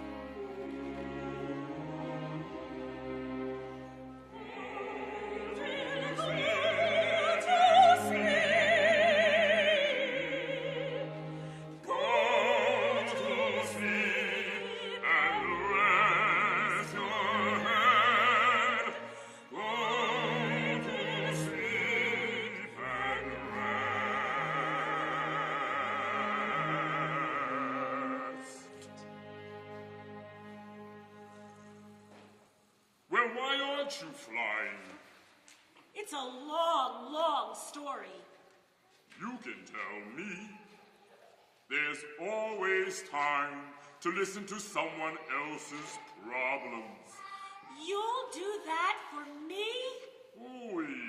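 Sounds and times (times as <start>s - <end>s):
operatic singing with vibrato: 0.0s - 32.0s, 32.6s - 35.1s, 39.2s - 41.0s, 41.7s - 51.0s.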